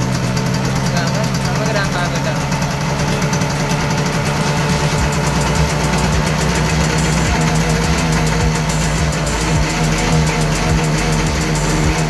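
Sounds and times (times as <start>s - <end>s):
two-stroke engine idling: 0.0s - 12.0s.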